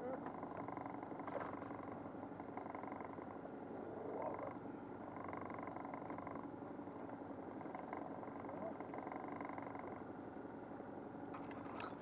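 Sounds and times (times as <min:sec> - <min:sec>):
outboard boat motor running: 0:00.0 - 0:12.0.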